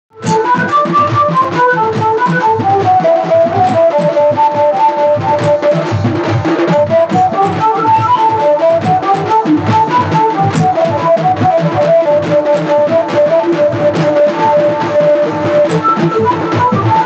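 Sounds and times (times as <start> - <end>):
melody over a steady beat: 0.1 - 17.0.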